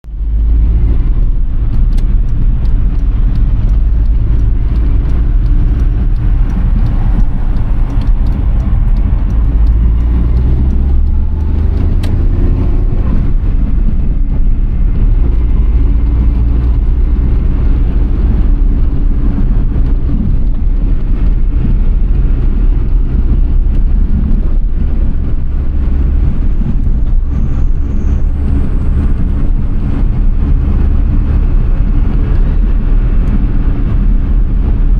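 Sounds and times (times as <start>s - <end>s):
car engine: 0.0s - 34.9s
road noise inside car: 0.0s - 34.9s.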